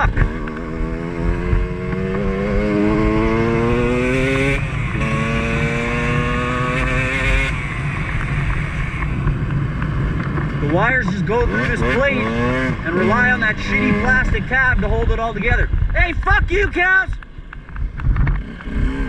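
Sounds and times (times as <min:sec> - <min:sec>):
dirt bike engine revving: 0:00.0 - 0:16.0, 0:18.1 - 0:19.0.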